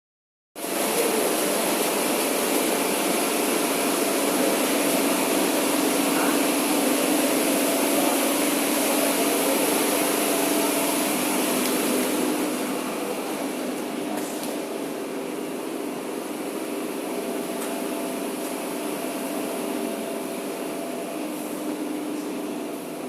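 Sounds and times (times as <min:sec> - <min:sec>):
factory machinery hum and hiss: 0:00.6 - 0:23.0.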